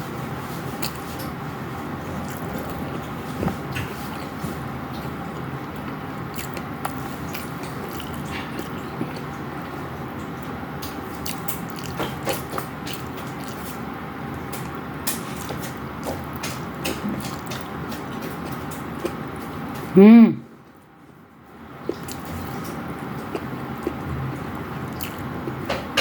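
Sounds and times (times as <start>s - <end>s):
steady background noise: 0.0s - 26.0s
person chewing and biting: 0.5s - 19.9s, 21.8s - 26.0s.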